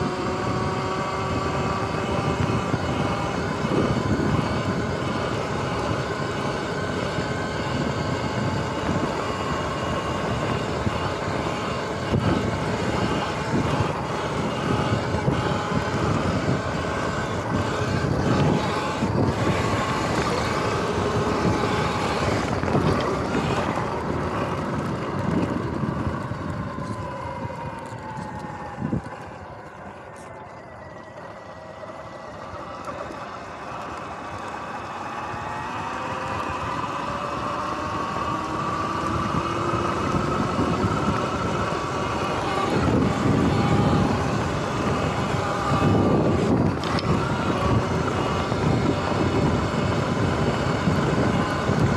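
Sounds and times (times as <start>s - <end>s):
electric motor whine: 0.0s - 51.9s
wind and bumpy ground rumble: 0.0s - 51.9s.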